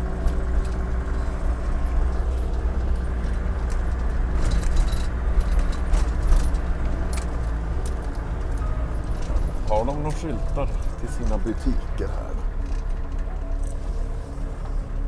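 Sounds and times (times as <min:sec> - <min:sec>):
van engine and road drone: 0:00.0 - 0:15.0
light rattles and clinks: 0:00.2 - 0:14.8.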